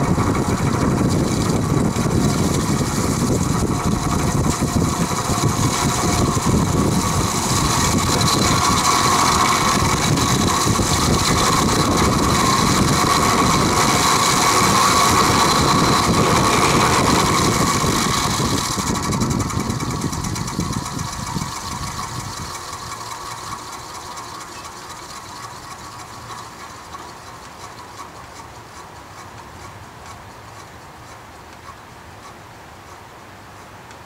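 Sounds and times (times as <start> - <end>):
box fan rattling hum: 0.0 - 34.0.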